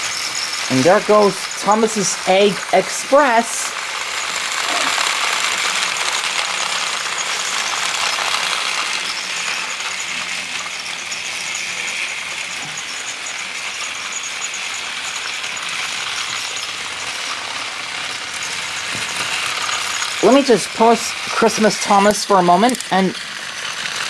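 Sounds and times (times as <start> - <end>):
toy train motors whirring: 0.0 - 24.0
wheels clattering over plastic track: 0.0 - 24.0.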